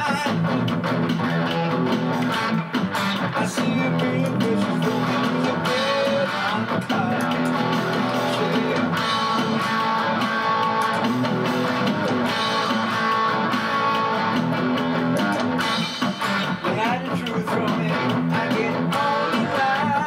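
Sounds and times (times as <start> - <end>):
electric guitar: 0.0 - 20.0
strummed guitar: 0.0 - 20.0.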